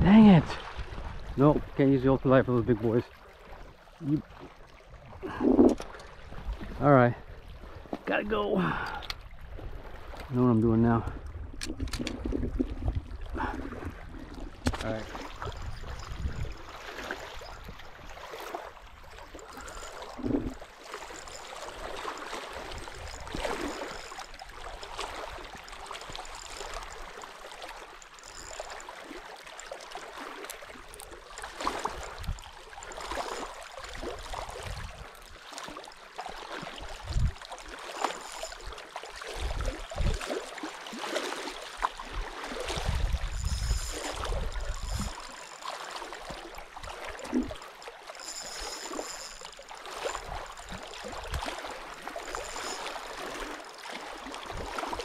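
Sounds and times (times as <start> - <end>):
water lapping and gurgling: 0.0 - 55.0.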